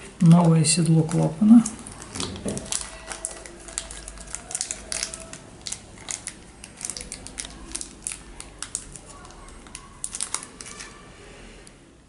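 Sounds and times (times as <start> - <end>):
plastic bag crinkling: 0.4 - 11.2.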